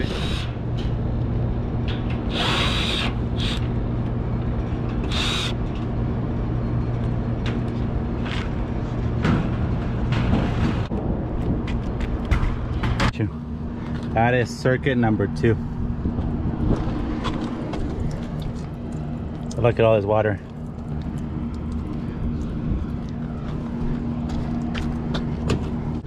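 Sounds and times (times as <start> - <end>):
air conditioning unit humming: 0.0 - 26.0.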